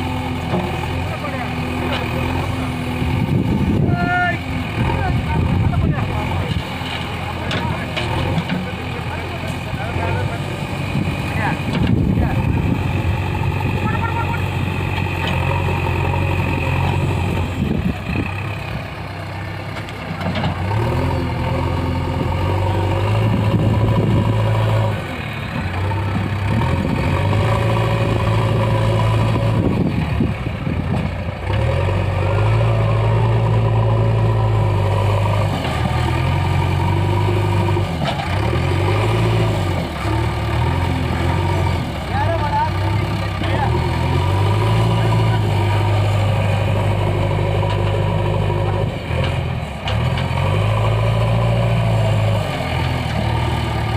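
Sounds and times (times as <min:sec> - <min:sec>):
diesel engine running loudly: 0:00.0 - 0:53.9.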